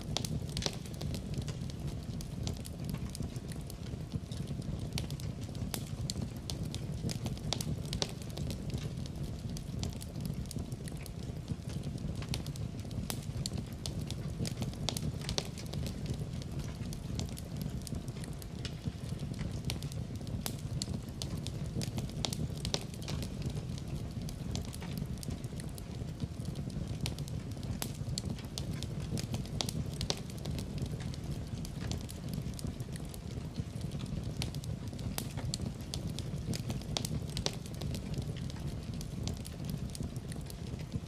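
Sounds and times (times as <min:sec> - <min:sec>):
fireplace fire crackling and popping: 0:00.0 - 0:41.0.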